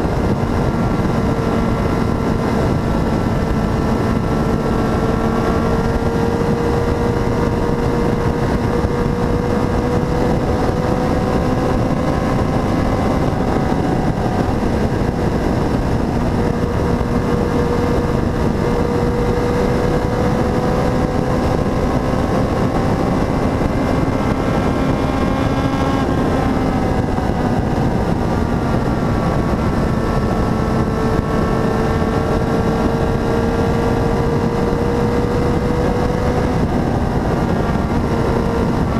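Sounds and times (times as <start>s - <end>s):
motorcycle engine running: 0.0s - 38.9s
wind rushing: 0.0s - 38.9s.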